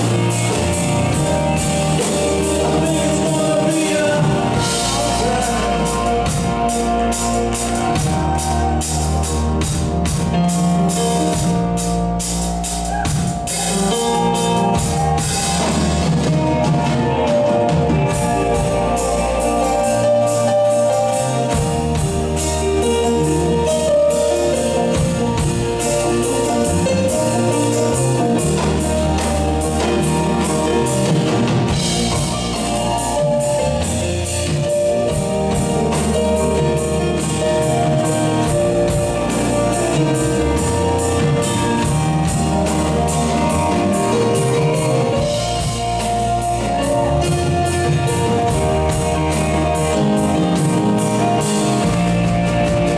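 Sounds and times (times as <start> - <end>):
bass guitar: 0.0 - 52.9
drum kit beat: 0.0 - 52.9
electric and acoustic guitars: 0.0 - 52.9
grand piano: 0.0 - 52.9.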